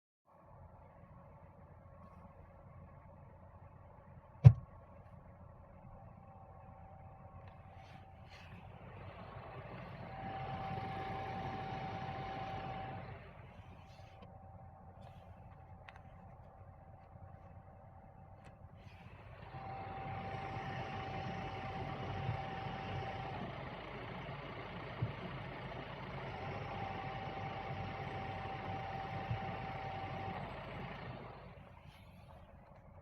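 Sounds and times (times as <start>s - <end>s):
high whirring gearbox whine: 0.3s - 33.0s.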